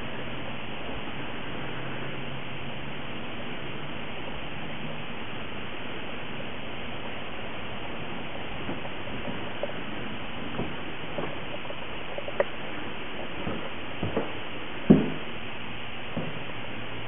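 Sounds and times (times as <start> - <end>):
faint low hum: 0.0 - 17.0
steady hiss: 0.0 - 17.0.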